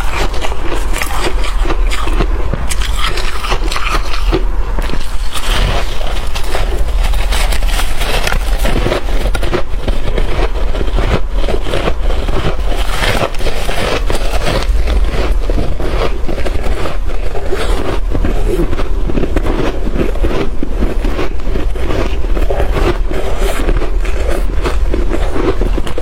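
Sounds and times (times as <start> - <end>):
ice crunching while chewed: 0.0 - 26.0
steady low rumble: 0.0 - 26.0.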